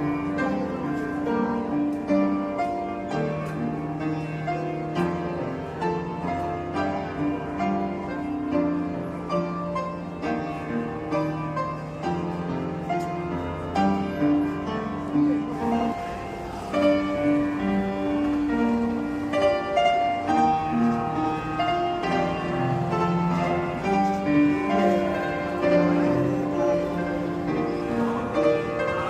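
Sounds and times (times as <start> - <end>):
keyboard melody: 0.0 - 29.0.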